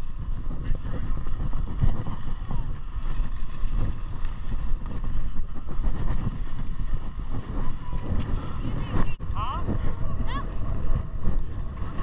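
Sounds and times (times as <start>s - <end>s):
snowblades scraping on snow: 0.0s - 12.0s
wind rumbling on microphone: 0.0s - 12.0s.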